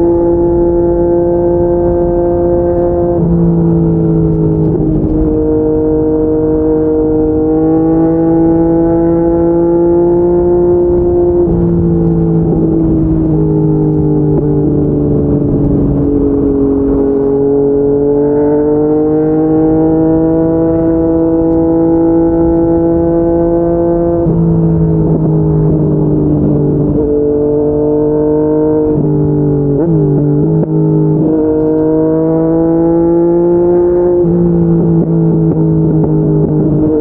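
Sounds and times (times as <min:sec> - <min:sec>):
motorcycle engine while riding: 0:00.0 - 0:37.0.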